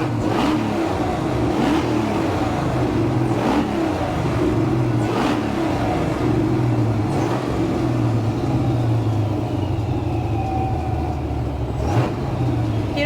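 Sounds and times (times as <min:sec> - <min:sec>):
faint engine whine: 0:00.0 - 0:13.0
truck engine running: 0:00.0 - 0:13.0.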